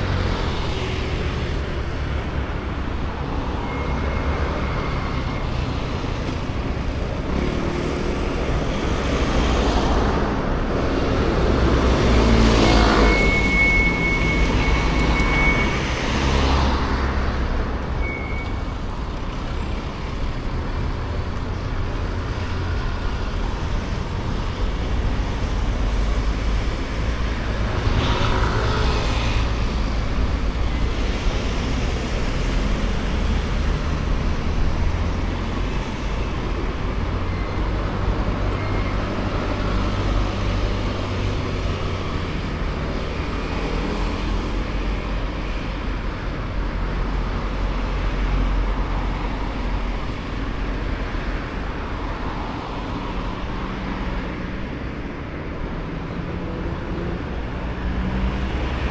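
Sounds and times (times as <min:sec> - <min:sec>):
cars passing by: 0:00.0 - 0:58.9.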